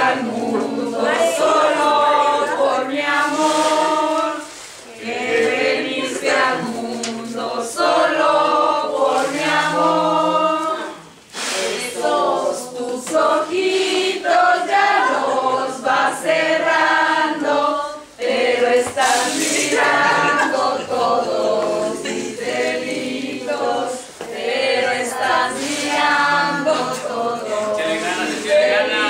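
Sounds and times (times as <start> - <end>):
group singing unaccompanied: 0.0 - 29.0.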